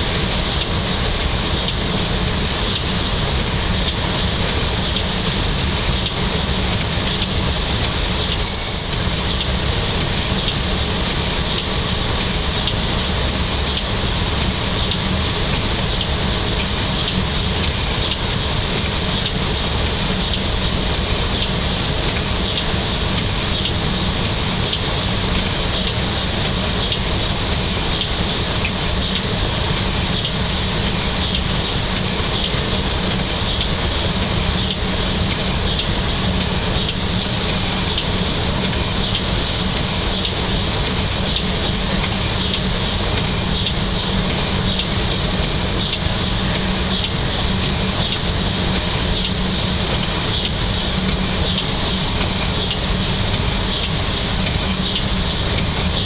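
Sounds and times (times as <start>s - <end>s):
train rumble with hiss: 0.0s - 56.0s.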